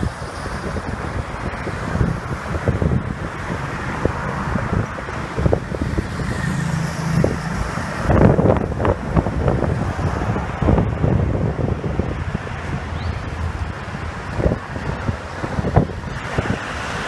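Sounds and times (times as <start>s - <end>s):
speedboat engine rumble: 0.0s - 17.0s
wind on microphone: 0.0s - 17.0s.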